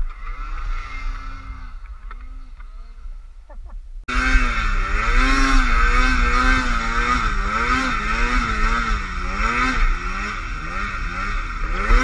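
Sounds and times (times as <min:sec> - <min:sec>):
snowmobile engine revving: 0:00.0 - 0:03.2, 0:04.1 - 0:12.0.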